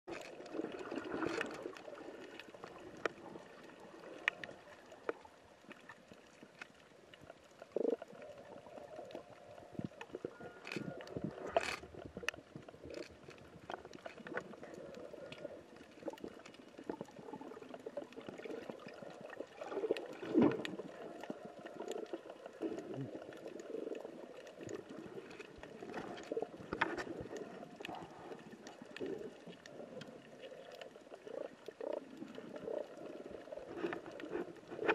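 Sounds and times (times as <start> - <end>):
underwater gurgle and bubbles: 0.0 - 34.9.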